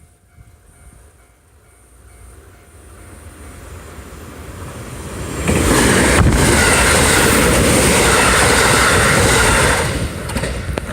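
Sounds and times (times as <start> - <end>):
train passing at speed: 0.0 - 10.9.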